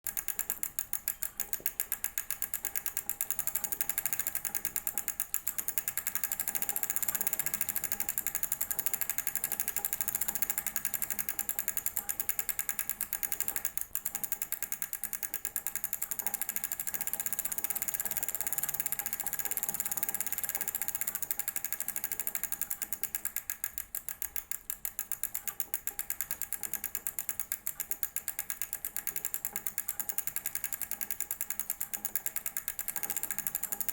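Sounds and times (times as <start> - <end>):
bicycle wheel ticking: 0.0 - 33.9.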